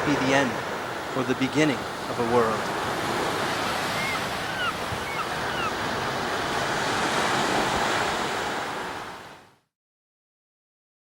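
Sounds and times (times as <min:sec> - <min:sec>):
ocean surf on beach: 0:00.0 - 0:09.7.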